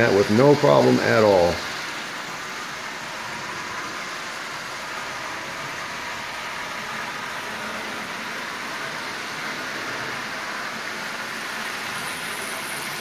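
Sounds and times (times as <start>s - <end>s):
toy train motor whirring: 0.0s - 13.0s
wheels running on rails: 0.0s - 13.0s.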